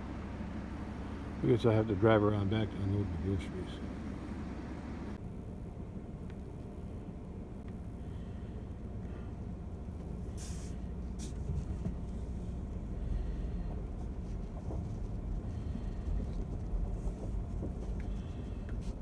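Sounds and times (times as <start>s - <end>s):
pickup truck engine and road rumble: 0.0s - 19.0s.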